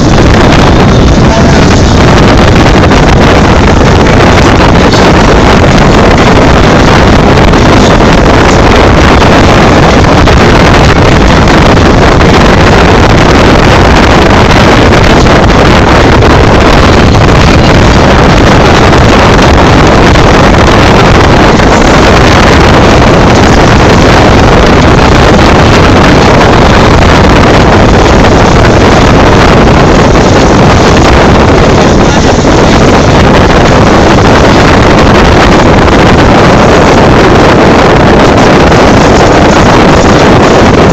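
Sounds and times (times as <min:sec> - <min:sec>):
boat engine running: 0:00.0 - 0:40.9
wind buffeting microphone: 0:00.0 - 0:40.9.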